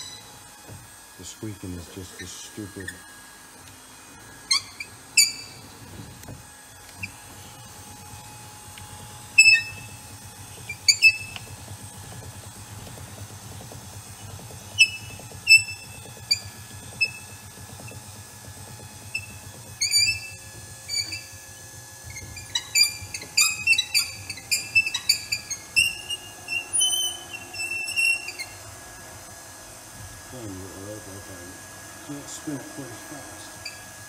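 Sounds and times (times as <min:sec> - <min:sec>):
steering wheel squeaking: 0:00.0 - 0:03.1, 0:04.1 - 0:29.2, 0:32.1 - 0:34.0.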